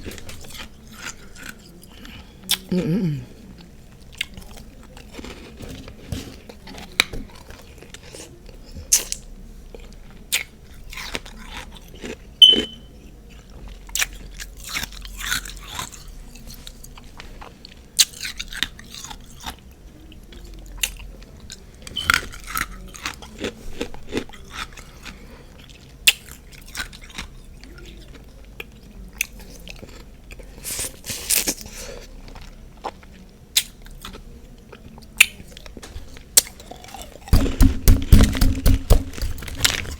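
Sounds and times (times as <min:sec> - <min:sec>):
chewing crunchy ice: 0:00.0 - 0:02.7, 0:03.9 - 0:19.6, 0:20.3 - 0:35.8, 0:36.4 - 0:39.9.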